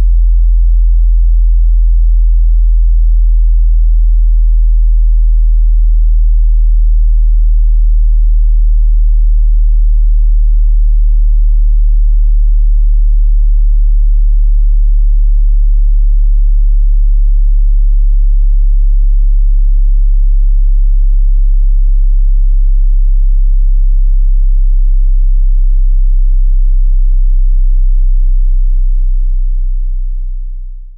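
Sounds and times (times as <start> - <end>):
deep sub-bass sine tone: 0.0 - 30.9.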